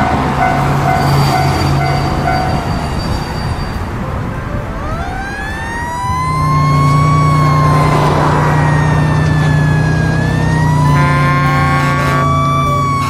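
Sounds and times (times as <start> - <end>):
fire truck siren wailing: 0.0 - 13.0.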